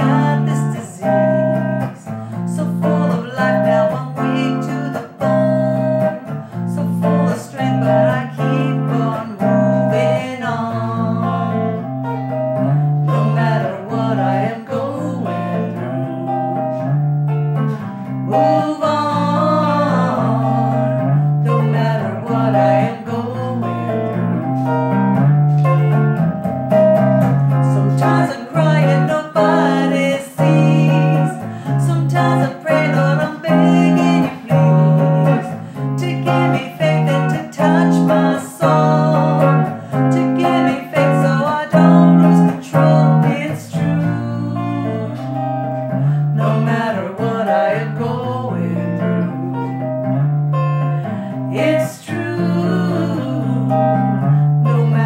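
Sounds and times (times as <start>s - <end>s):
guitar chords strummed: 0.0s - 55.0s
woman singing: 0.0s - 55.0s.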